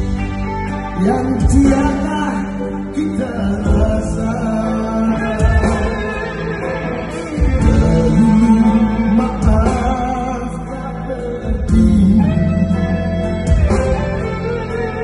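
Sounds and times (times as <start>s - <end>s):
live rock band playing: 0.0s - 15.0s
male lead vocal: 0.9s - 14.6s.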